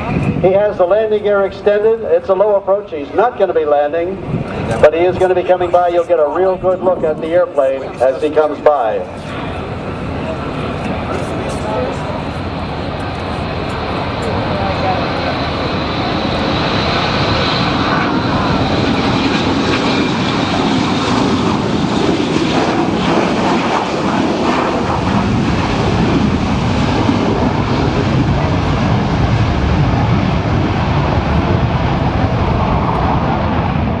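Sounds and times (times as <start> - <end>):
jet engines rushing: 0.0 - 34.0
low aircraft rumble: 0.0 - 34.0.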